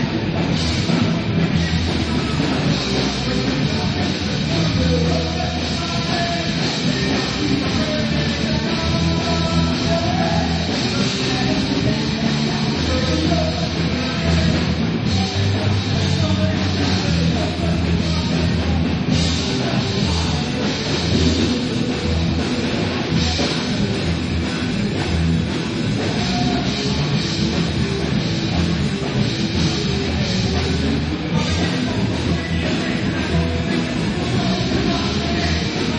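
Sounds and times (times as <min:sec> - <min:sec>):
drum kit: 0:00.0 - 0:35.9
electric guitar: 0:00.0 - 0:35.9.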